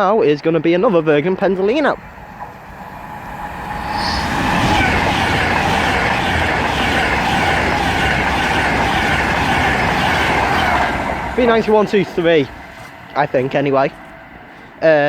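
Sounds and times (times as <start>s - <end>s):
electric train passing at speed: 0.0s - 15.0s.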